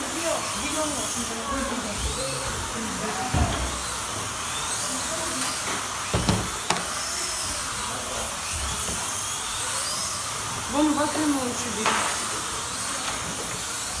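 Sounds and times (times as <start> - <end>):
slot car motors whining: 0.0 - 14.0.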